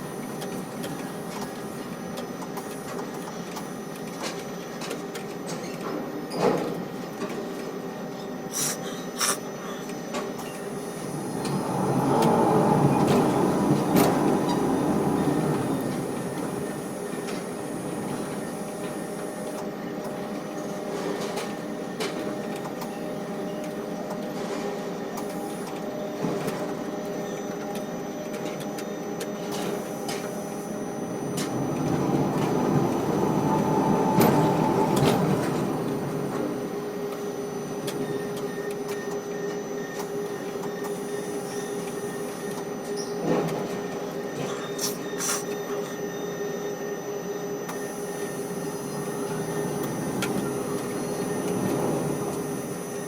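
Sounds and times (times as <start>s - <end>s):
crane machinery humming: 8.8s - 53.0s.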